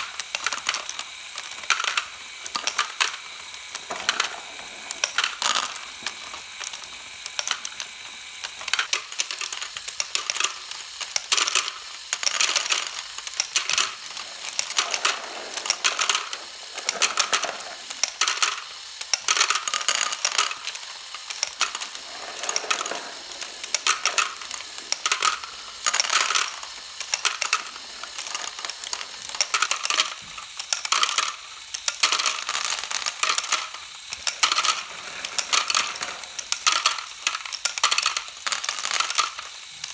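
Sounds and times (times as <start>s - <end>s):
motor-driven conveyor running: 0.0s - 39.9s
plastic balls clacking and rattling: 0.0s - 39.9s.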